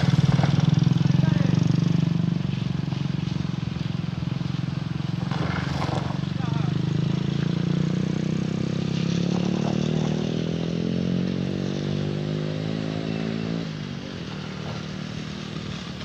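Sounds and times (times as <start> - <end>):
vehicle engine running at high revs: 0.0 - 16.0.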